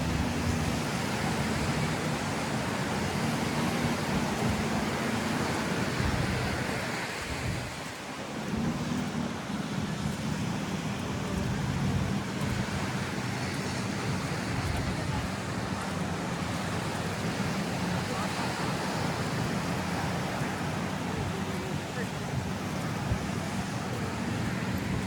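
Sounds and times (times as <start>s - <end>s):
surf washing ashore: 0.0s - 25.0s
wind on microphone: 0.0s - 25.0s.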